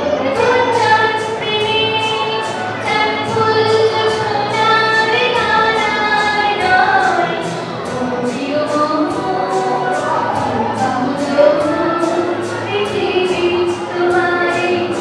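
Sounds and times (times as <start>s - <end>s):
musical accompaniment with steady beat: 0.0s - 15.0s
woman singing slow melody: 0.0s - 15.0s.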